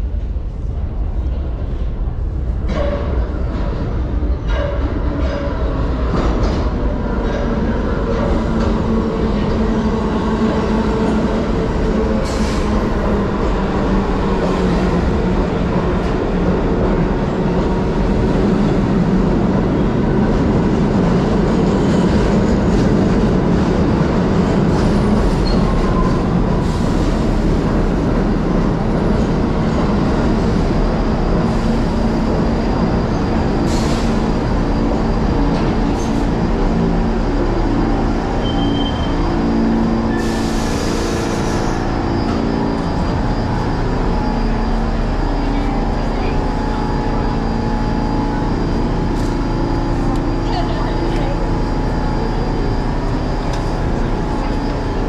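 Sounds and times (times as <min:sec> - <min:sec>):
subway train rumbling on rails: 0:00.0 - 0:55.0.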